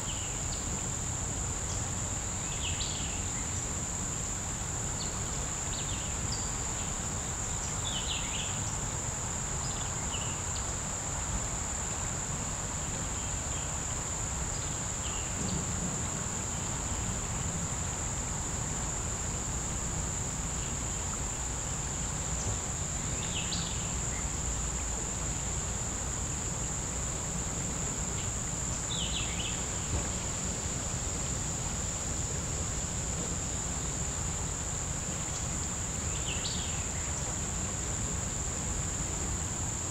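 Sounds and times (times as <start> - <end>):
insect chirps: 0.0 - 39.9
insects droning: 0.0 - 39.9.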